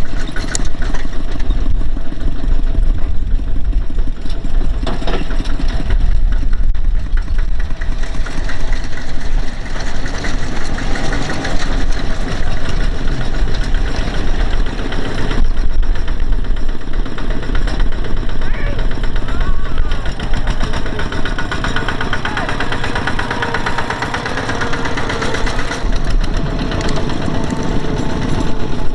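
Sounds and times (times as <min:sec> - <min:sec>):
engine running loudly: 0:00.0 - 0:28.9.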